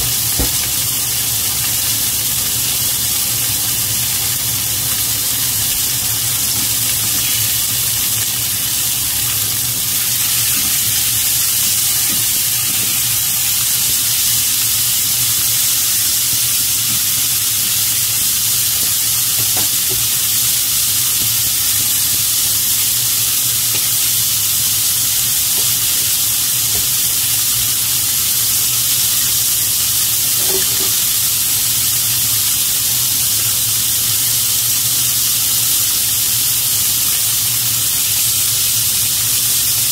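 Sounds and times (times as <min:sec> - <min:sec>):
pork sizzling in a frying pan: 0:00.0 - 0:39.9.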